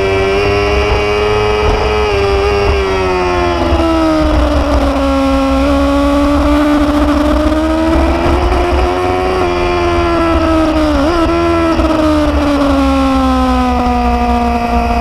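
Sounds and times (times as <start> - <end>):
low wind rumble: 0.0 - 15.0
motorcycle engine running: 0.0 - 15.0.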